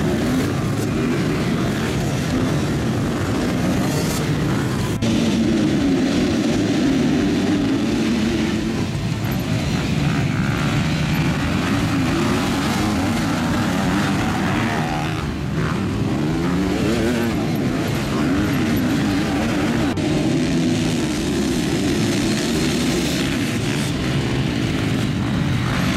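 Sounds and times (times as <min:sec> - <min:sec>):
motocross bikes revving: 0:00.0 - 0:25.9.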